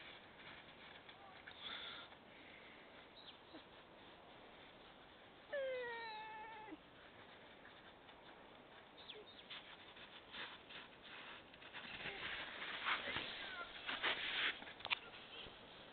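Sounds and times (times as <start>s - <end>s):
footsteps crunching on snow: 0.0s - 5.5s, 7.0s - 15.4s.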